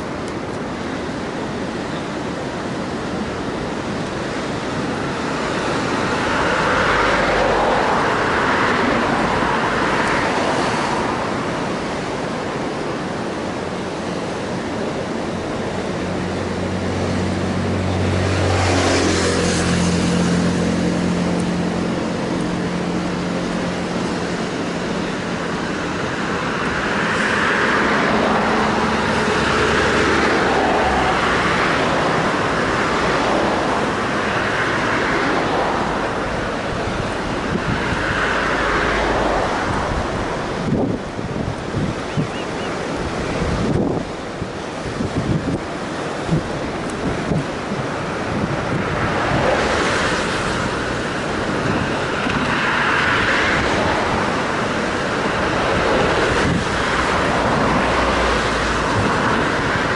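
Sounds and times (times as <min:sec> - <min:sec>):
constant background rush: 0:00.0 - 0:59.9
vehicle engine drone: 0:00.0 - 0:59.9.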